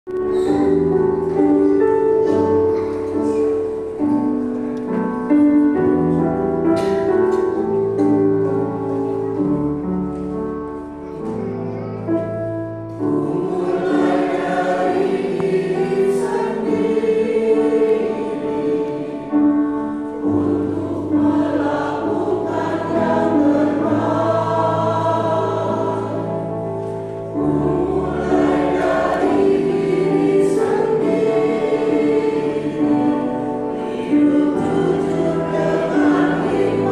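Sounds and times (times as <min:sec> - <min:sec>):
choir singing a hymn: 0:00.1 - 0:11.4, 0:12.1 - 0:36.9.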